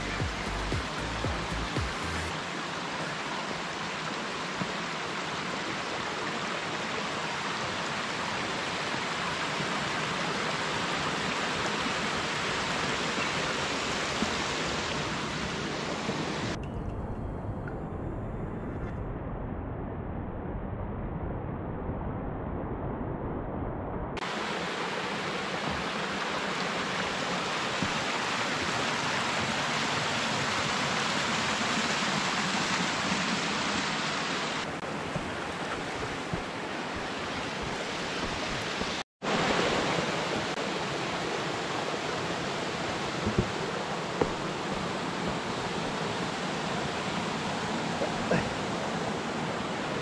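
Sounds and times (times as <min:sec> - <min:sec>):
creek rushing over rocks: 0:00.0 - 0:16.6, 0:24.2 - 0:50.0.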